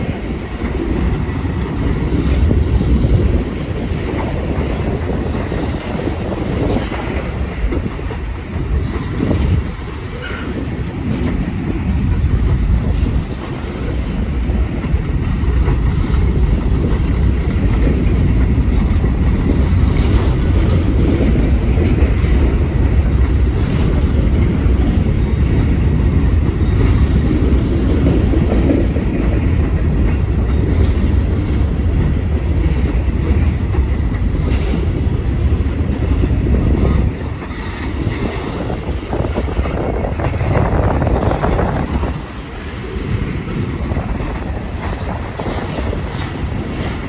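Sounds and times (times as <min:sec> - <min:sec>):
train rumbling on rails: 0:00.0 - 0:47.0
train wheel clicks: 0:00.0 - 0:47.0.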